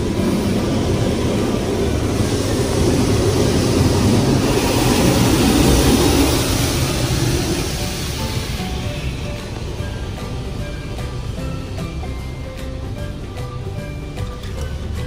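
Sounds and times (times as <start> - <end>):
car wash water jets spraying: 0.0 - 15.0.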